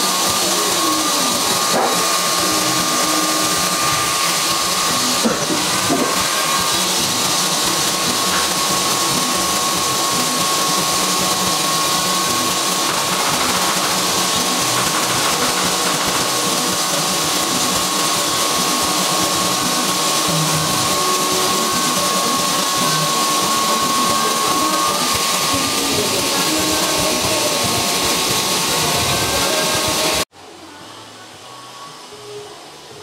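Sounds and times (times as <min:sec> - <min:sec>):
power saw whining: 0:00.0 - 0:30.3.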